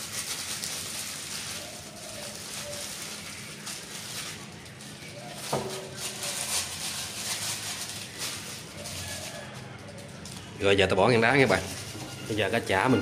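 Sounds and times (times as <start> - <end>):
plastic bag and gloves crinkling: 0.0 - 13.0.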